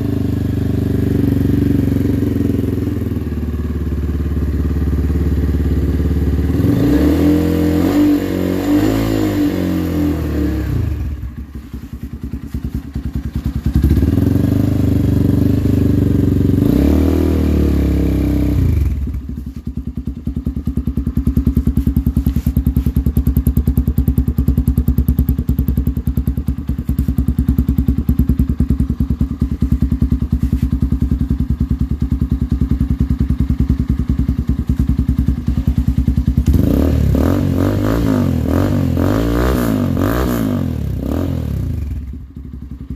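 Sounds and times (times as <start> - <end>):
motorcycle engine idling: 0.0 - 8.6, 9.6 - 39.1, 39.9 - 42.9
motorcycle engine revving: 0.0 - 42.9.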